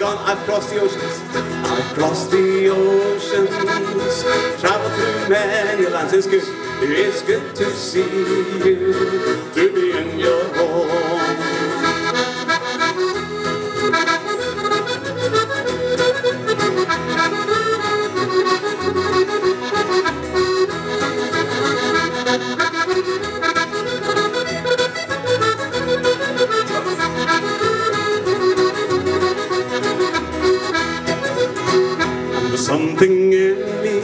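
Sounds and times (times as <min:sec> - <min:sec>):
accordion playing folk music: 0:00.0 - 0:34.0.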